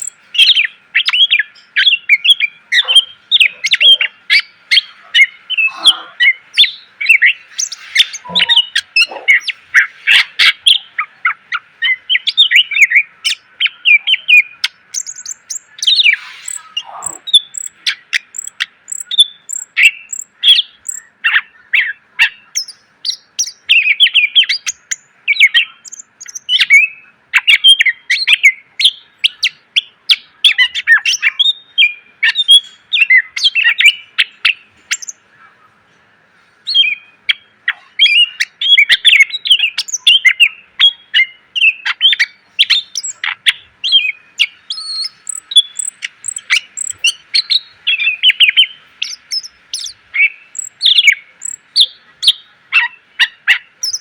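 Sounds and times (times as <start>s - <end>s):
songbird singing varied chirps: 0.0s - 54.0s.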